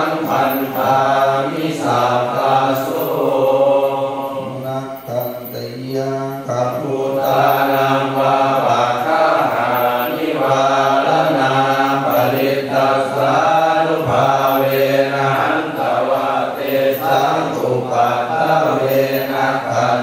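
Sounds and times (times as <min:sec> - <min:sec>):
voices chanting prayers: 0:00.0 - 0:20.0.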